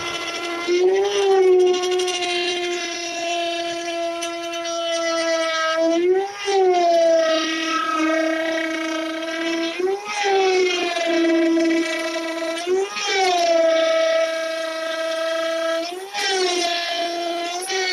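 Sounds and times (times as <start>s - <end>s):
router motor whining: 0.0s - 17.9s.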